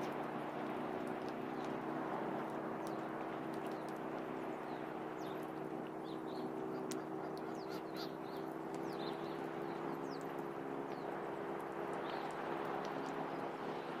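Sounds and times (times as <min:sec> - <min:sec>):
steady low drone: 0:00.0 - 0:14.0
birds chirping: 0:01.0 - 0:14.0.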